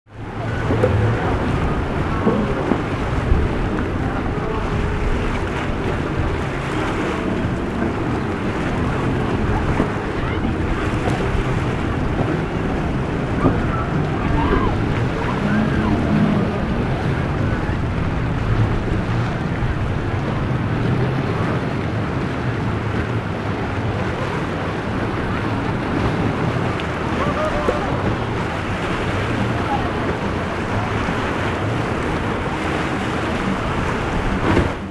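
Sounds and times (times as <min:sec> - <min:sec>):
boat engine running: 0:00.1 - 0:34.9
breaking surf: 0:00.1 - 0:34.9
wind buffeting microphone: 0:00.1 - 0:34.9.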